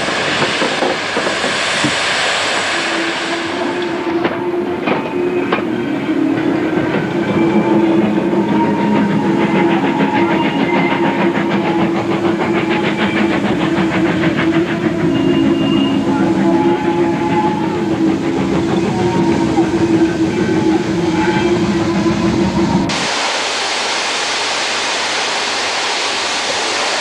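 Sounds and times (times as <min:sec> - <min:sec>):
sustained train tones: 0:00.0 - 0:23.0
steam train rumbling past: 0:00.0 - 0:27.0.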